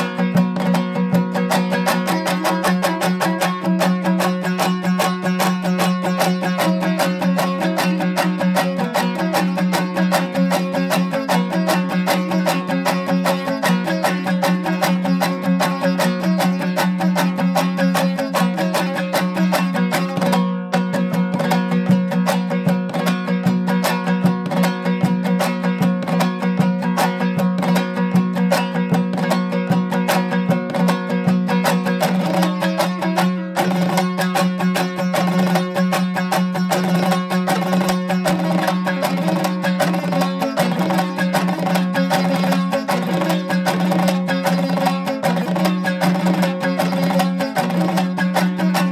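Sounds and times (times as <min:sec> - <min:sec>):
plucked string instrument: 0:00.0 - 0:48.9.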